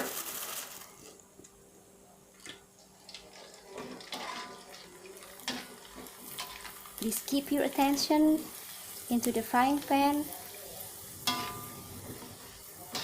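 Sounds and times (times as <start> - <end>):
crackers sizzling in oil: 0.0 - 1.2, 2.5 - 13.0.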